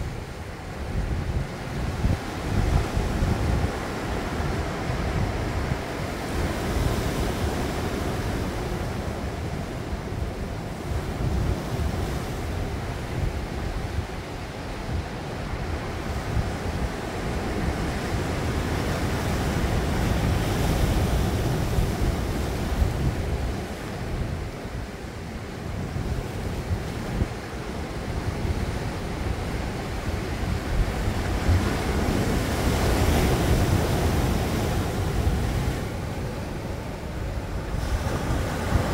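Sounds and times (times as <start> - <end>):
wind rumbling on microphone: 0.0 - 38.9
waves breaking on rocky shore: 0.1 - 38.9.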